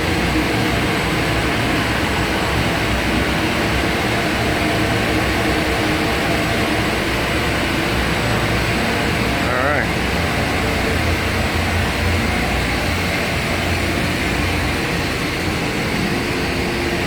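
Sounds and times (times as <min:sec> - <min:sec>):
boiler machinery humming: 0:00.0 - 0:17.0.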